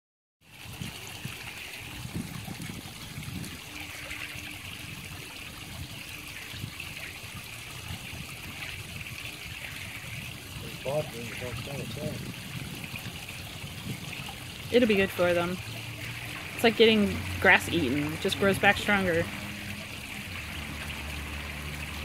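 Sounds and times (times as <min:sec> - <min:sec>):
pond water trickling: 0:00.4 - 0:22.0
low uneven rumble: 0:02.0 - 0:22.0.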